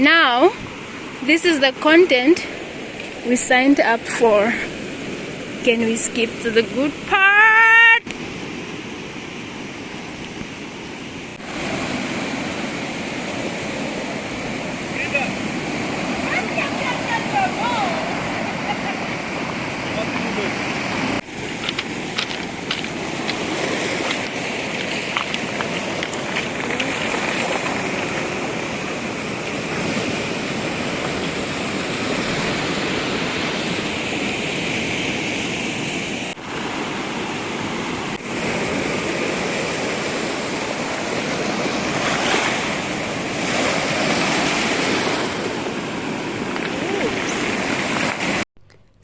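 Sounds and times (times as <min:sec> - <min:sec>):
ocean surf washing onto beach: 0:00.0 - 0:48.5.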